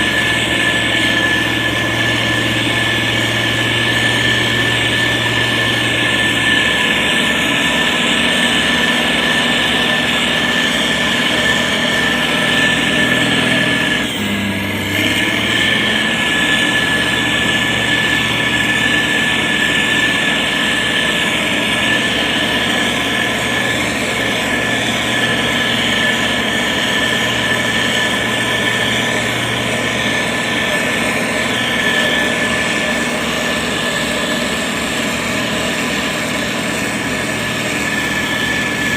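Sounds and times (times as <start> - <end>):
constant whine: 0.0 - 38.9
heavy machine engine running: 0.0 - 38.9.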